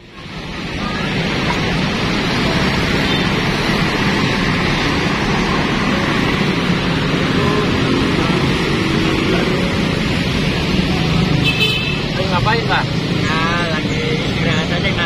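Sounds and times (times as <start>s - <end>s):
cars passing: 0.0s - 15.0s
motorbikes passing: 0.0s - 15.0s.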